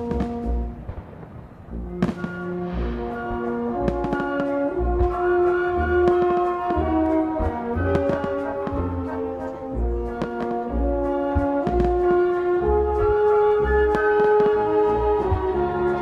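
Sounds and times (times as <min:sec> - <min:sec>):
brass orchestral music: 0:00.0 - 0:16.0
fireworks bangs and crackles: 0:00.0 - 0:16.0.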